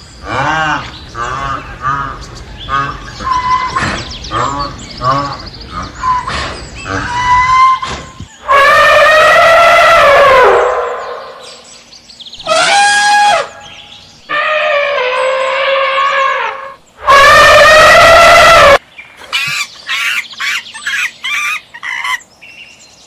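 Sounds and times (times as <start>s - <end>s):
loud animal calls: 0.2s - 11.6s, 12.4s - 22.2s.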